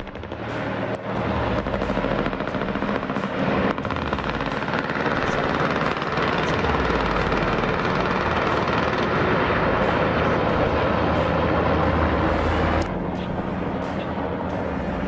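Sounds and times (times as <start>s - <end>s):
helicopter rotor blades beating: 0.0s - 15.0s.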